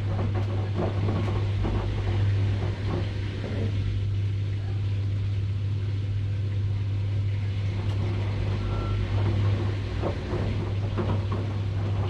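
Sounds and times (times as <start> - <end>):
washing machine motor hum: 0.0 - 12.0
water and laundry swishing: 0.0 - 12.0.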